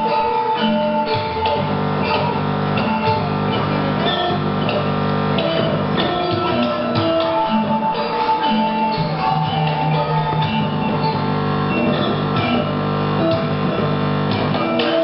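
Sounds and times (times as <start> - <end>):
plucked and strummed guitar music: 0.0 - 15.0.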